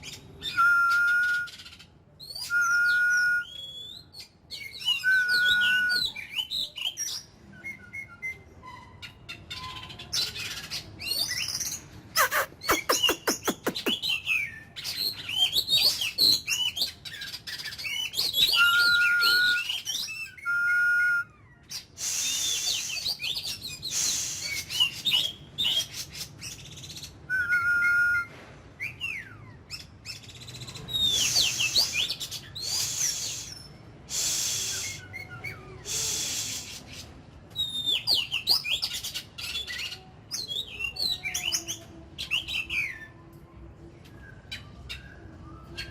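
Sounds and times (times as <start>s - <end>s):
bird singing whistled song: 0.0s - 43.3s, 44.0s - 45.9s.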